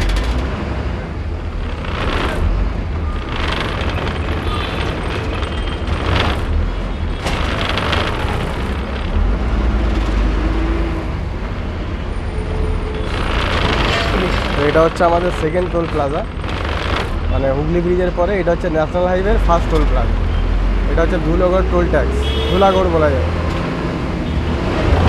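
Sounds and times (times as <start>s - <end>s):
bus engine rumbling: 0.0s - 25.0s.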